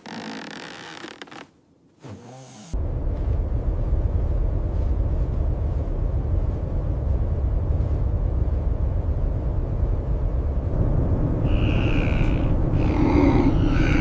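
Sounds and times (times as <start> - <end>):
low rumbling roar: 2.7 - 14.0.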